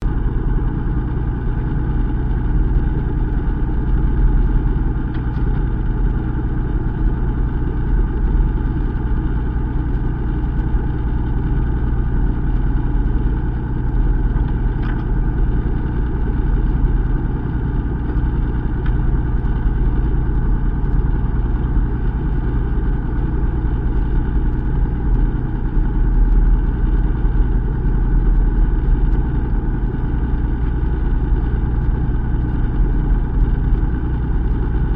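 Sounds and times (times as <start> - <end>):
boat engine running at low revs: 0.0 - 34.9.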